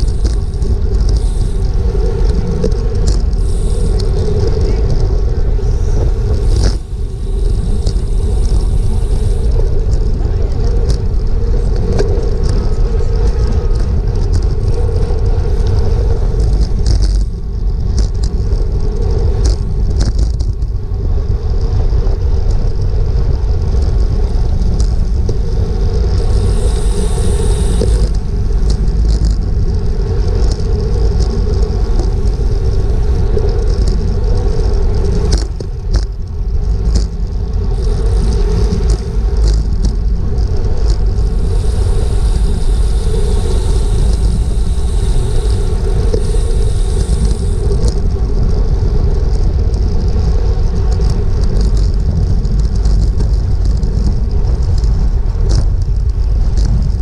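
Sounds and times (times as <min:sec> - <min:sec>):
bicycle clicks: 0:00.0 - 0:57.0
road and tyre noise: 0:00.0 - 0:57.0
wind rushing over microphone: 0:00.0 - 0:57.0.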